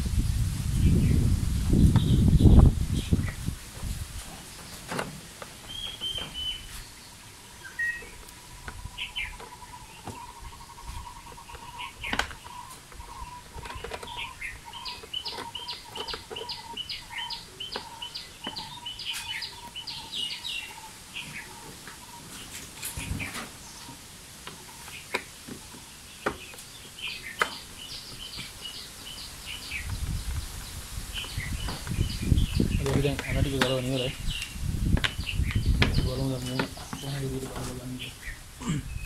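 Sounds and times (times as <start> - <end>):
bird chirping: 4.3 - 39.0.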